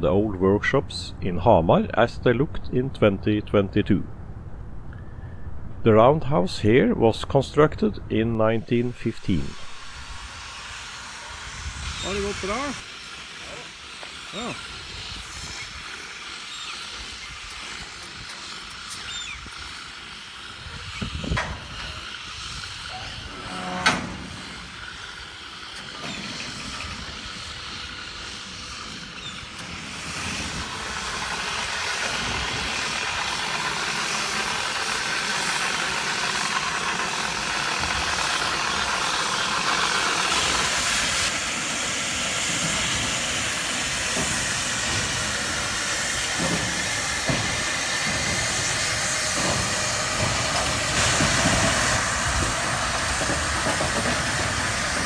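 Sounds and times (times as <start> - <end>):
steam locomotive hissing: 8.6 - 55.0.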